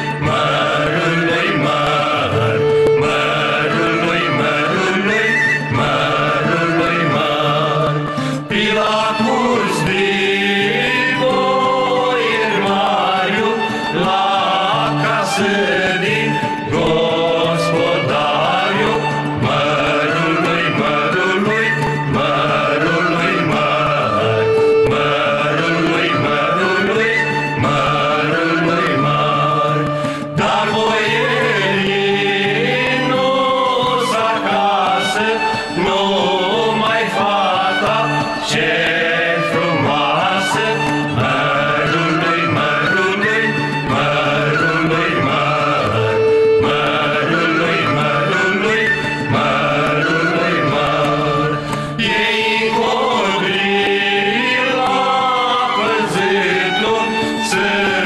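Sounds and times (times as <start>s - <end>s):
voices singing a carol: 0.0s - 58.0s.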